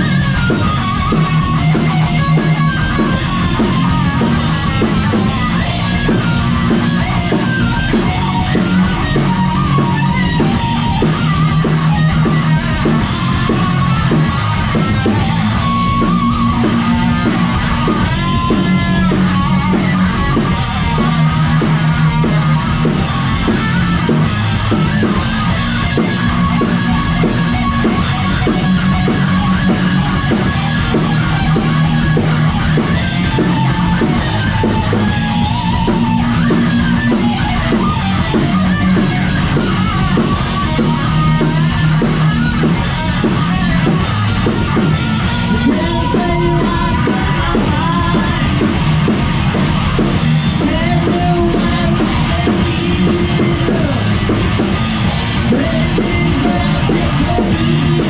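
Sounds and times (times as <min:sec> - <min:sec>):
heavy metal instrumental: 0:00.0 - 0:58.0.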